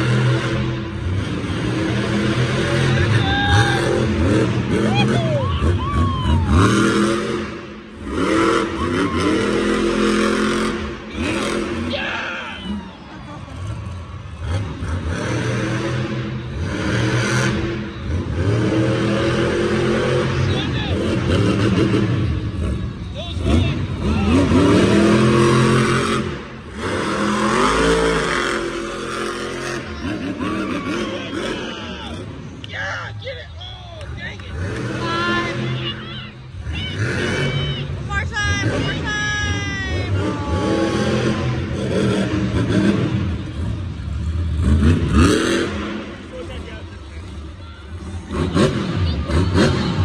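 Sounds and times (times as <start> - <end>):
truck engine revving: 0.0 - 50.0.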